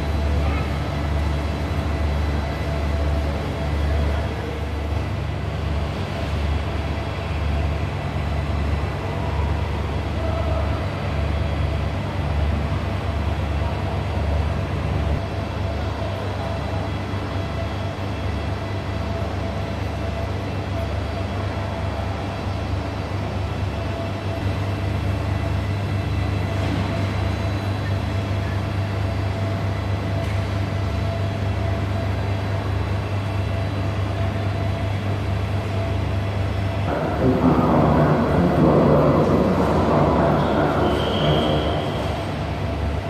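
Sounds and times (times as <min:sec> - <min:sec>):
diesel train idling hum: 0:00.0 - 0:43.0.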